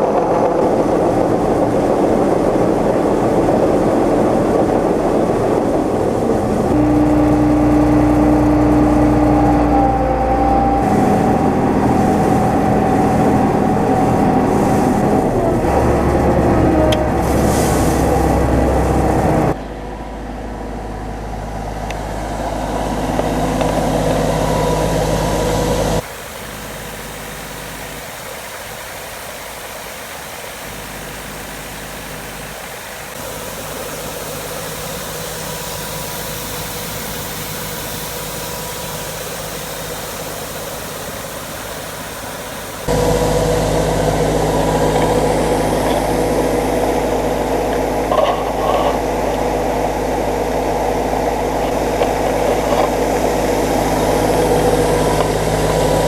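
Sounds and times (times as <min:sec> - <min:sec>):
farm machinery engine running: 0:00.0 - 0:56.0.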